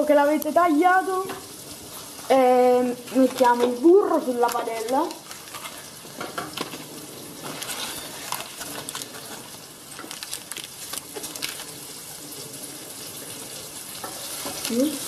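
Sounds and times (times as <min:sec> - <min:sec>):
pancetta sizzling in a pan: 0:00.0 - 0:15.0.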